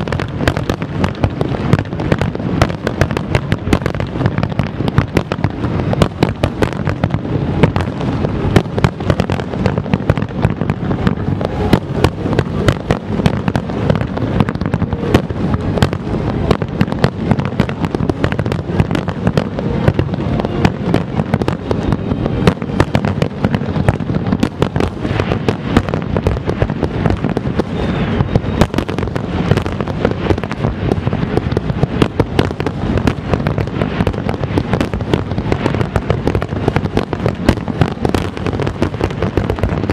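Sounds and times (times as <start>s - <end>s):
deep rumble: 0.0s - 39.9s
fireworks bangs and crackle: 0.0s - 39.9s.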